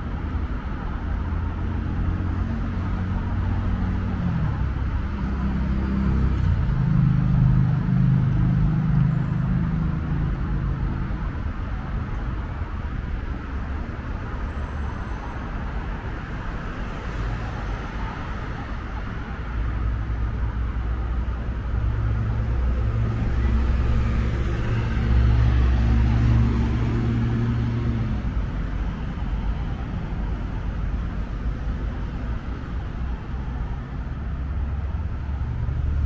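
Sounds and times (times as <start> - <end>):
cars driving past: 0.0 - 36.0.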